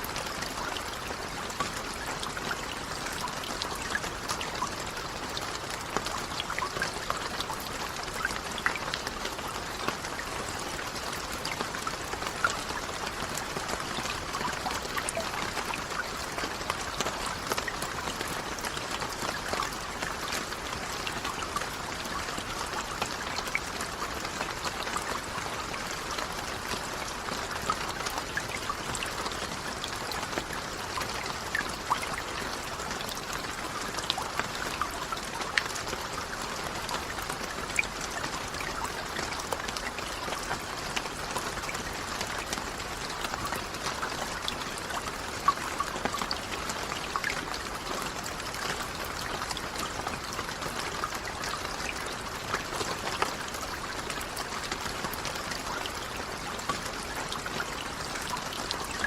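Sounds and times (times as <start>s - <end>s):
raindrops ticking: 0.0s - 59.0s.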